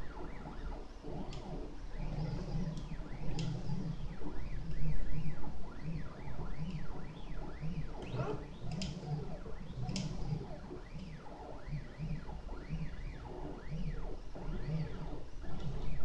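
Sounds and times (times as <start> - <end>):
low pulsing hum: 0.0 - 16.0.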